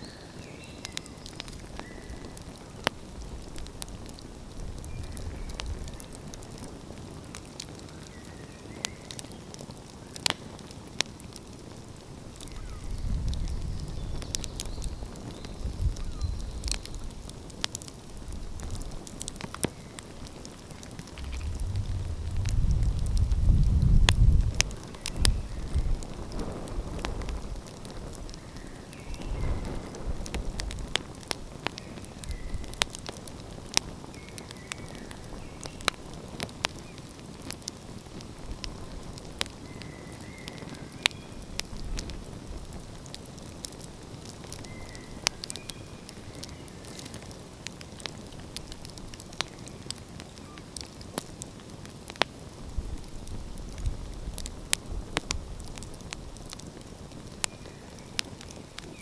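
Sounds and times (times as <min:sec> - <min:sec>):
wood fire crackling and popping: 0:00.3 - 0:59.0.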